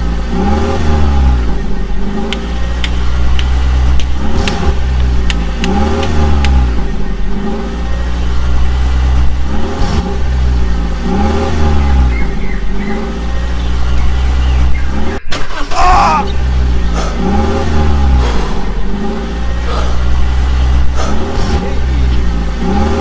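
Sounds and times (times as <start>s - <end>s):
heavy vehicle engine revving: 0.0s - 23.0s.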